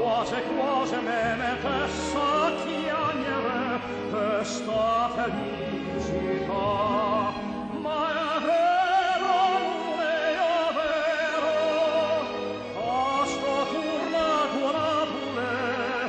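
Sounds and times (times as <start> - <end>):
operatic singing: 0.0 - 16.0.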